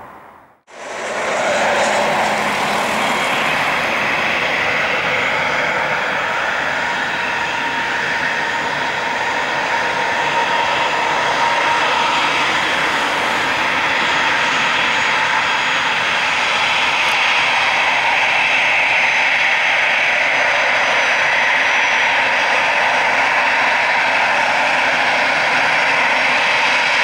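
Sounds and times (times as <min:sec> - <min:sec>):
jet engines whining at taxi power: 0:00.0 - 0:27.0.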